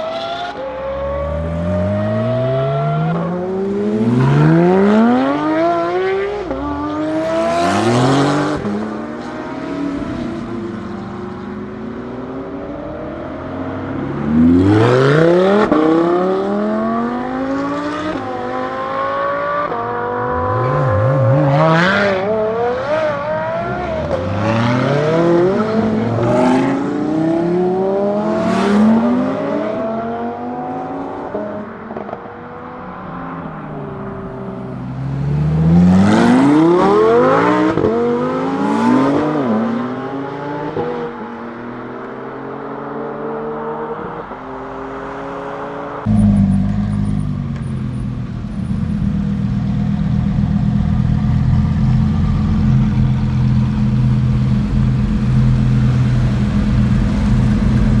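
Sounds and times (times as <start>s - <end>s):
sports car engine accelerating: 0.0s - 44.4s, 45.3s - 58.0s.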